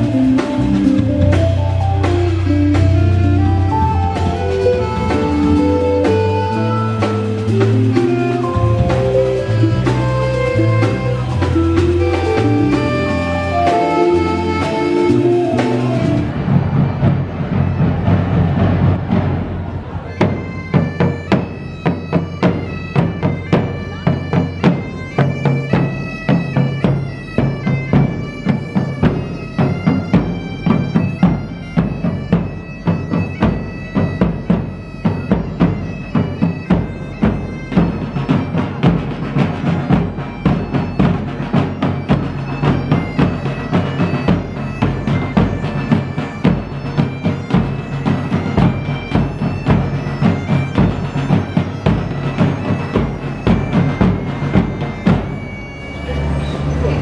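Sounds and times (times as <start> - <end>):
bagpipe melody with drone: 0.0 - 16.9, 19.8 - 57.0
drums beating steady rhythm: 0.0 - 57.0.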